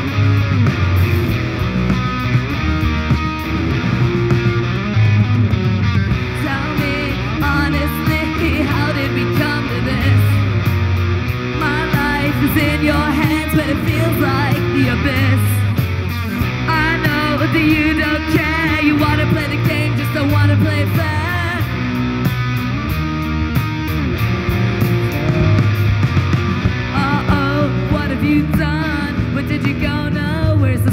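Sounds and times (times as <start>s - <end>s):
bending electric guitar lead: 0.0s - 30.9s
rock band playing: 0.0s - 30.9s.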